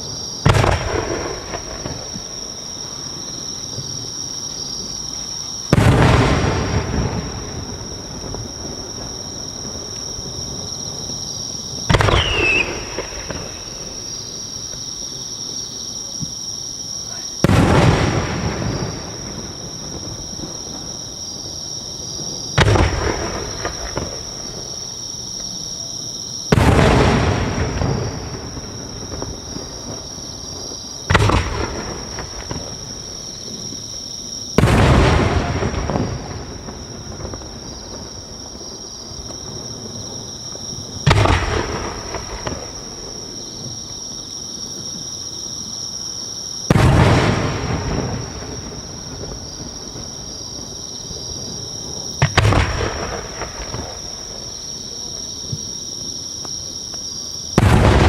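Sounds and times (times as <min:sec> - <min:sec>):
firework shells booming: 0:00.0 - 0:45.1, 0:46.5 - 0:58.0.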